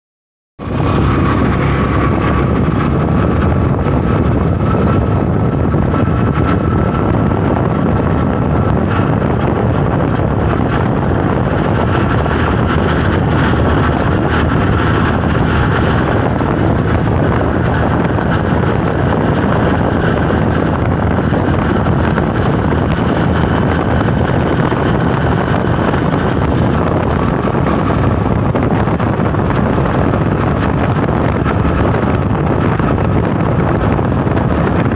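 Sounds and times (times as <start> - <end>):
vehicle engine and road noise: 0.6 - 34.9
wind on microphone: 0.6 - 34.9.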